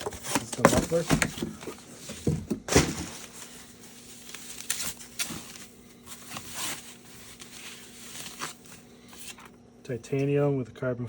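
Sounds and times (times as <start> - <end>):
packaging rustling: 0.0 - 9.6
faint steady hum: 0.0 - 11.0.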